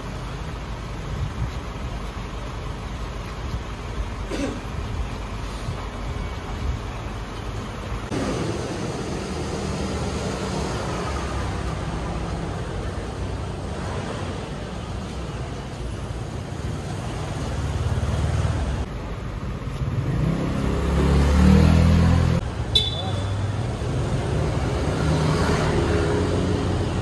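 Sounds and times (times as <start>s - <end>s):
vehicle engines running: 0.0s - 27.0s.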